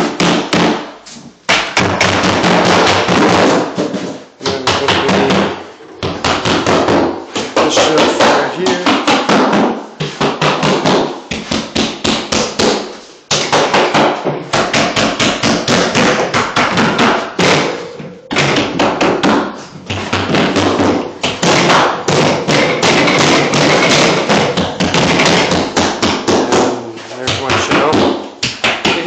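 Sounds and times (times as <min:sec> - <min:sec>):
hammer blows driving nails: 0:00.0 - 0:29.0.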